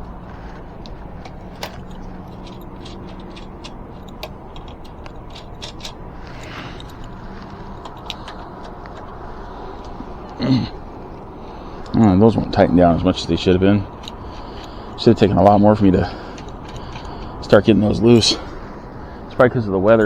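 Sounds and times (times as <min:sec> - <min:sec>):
hand tools clicking on metal: 0:00.0 - 0:20.0
steady low hum: 0:00.0 - 0:20.0.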